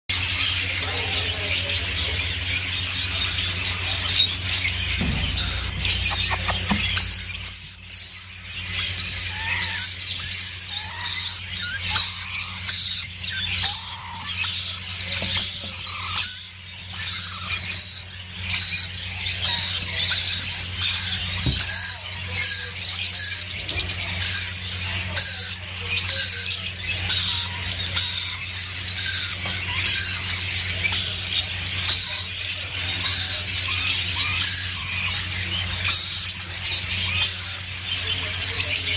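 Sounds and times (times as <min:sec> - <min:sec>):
parrots squealing and chattering: 0:00.1 - 0:38.9
steady low hum: 0:00.1 - 0:38.9.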